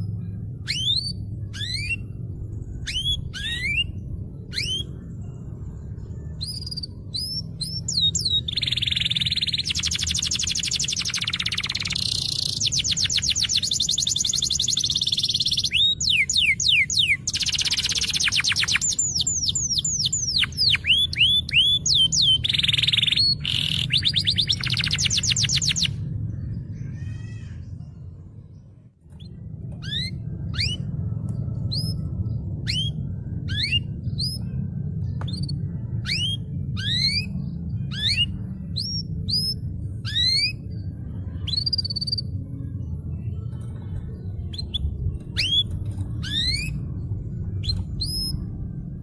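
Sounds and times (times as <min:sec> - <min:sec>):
canary singing: 0:00.0 - 0:27.8, 0:29.1 - 0:42.4, 0:44.3 - 0:48.6
steady low hum: 0:00.0 - 0:49.0.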